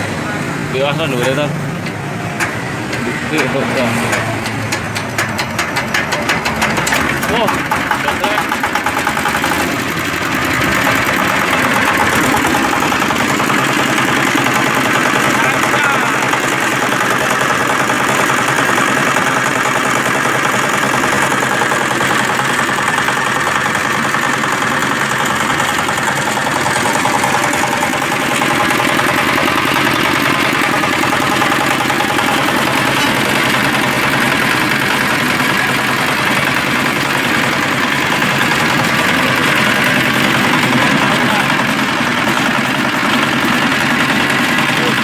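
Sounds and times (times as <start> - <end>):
diesel engine knocking: 0.0 - 45.0.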